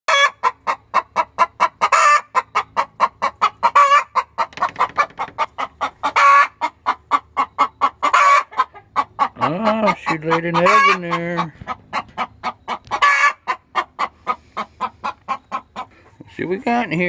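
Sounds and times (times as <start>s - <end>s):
hen clucking: 0.1s - 17.0s
hen squawking: 0.2s - 16.8s.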